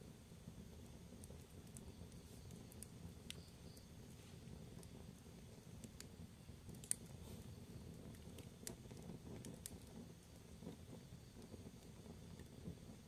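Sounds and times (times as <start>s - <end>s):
fire crackles and pops: 0.0s - 13.0s
fire low rumble: 0.0s - 13.0s.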